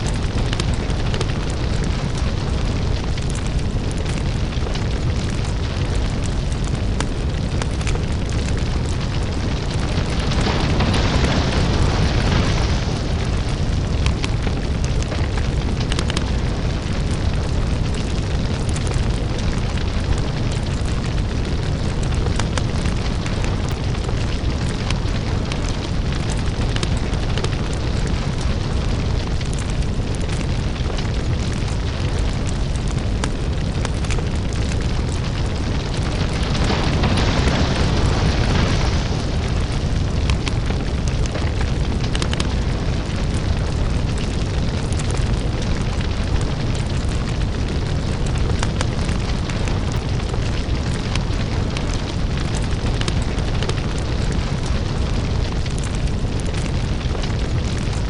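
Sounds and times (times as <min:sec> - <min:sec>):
deep steady rumble: 0:00.0 - 0:58.0
fire crackling and popping: 0:00.0 - 0:58.0.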